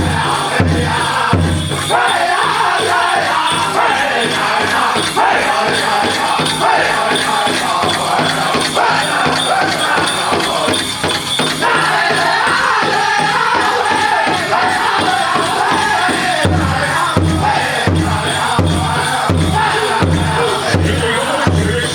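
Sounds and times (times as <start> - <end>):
high-pitched group singing: 0.0 - 21.9
jingling bells: 0.0 - 21.9
steady drumbeat: 0.0 - 21.9.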